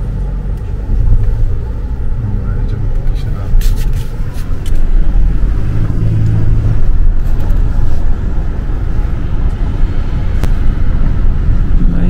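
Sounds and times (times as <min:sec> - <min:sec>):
engine and road rumble in cabin: 0:00.0 - 0:12.0.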